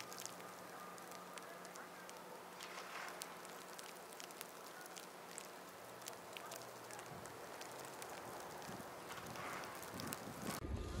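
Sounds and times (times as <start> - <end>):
soft steady hiss: 0.0 - 10.6.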